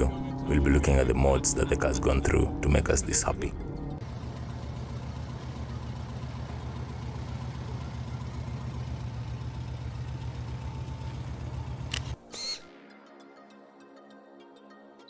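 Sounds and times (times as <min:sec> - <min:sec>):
car engine running steadily: 0:00.0 - 0:12.6.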